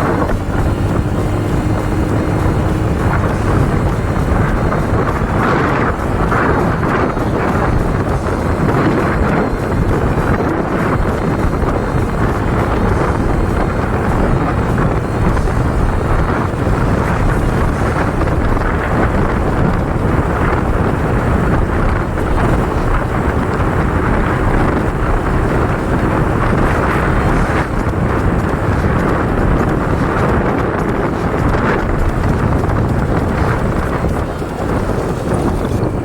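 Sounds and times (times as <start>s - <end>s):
motorcycle engine running: 0.0s - 36.0s
wind noise on microphone: 0.0s - 36.0s.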